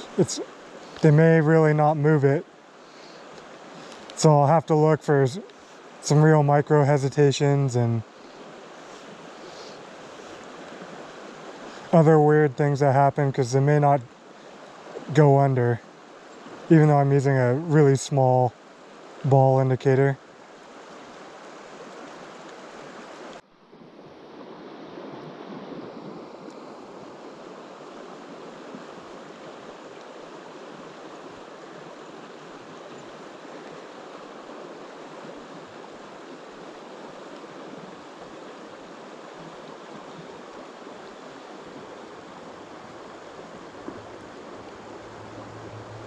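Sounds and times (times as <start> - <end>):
flowing river water: 0.0 - 46.0.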